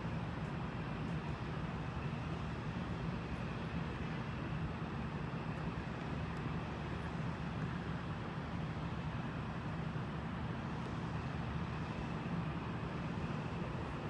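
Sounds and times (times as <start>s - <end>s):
low rumble of distant engines: 0.0s - 14.0s.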